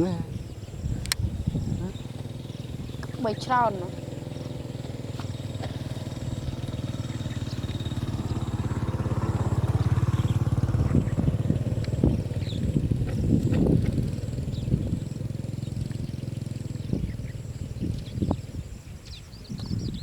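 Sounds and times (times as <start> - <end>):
small engine puttering: 0.0 - 20.0.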